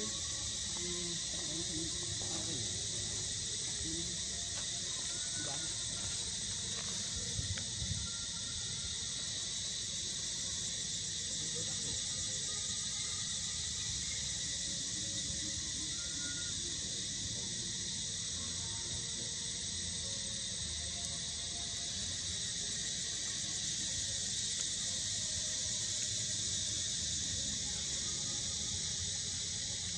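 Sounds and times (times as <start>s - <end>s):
insects droning: 0.0s - 29.9s.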